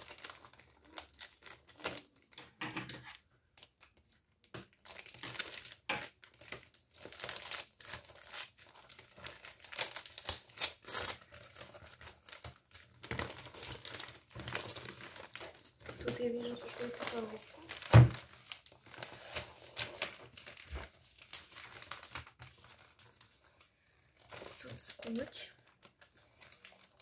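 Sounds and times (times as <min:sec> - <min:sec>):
wrapping paper crinkling and tearing: 0:00.0 - 0:27.0.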